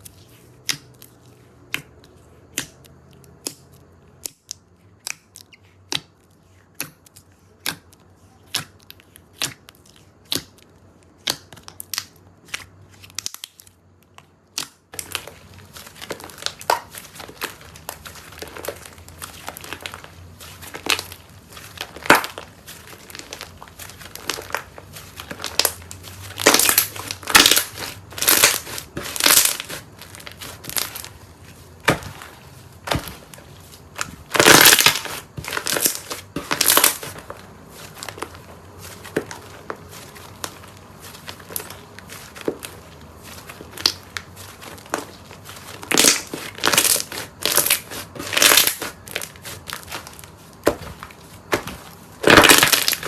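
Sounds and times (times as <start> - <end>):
crunchy slime being squeezed: 0.0 - 53.0.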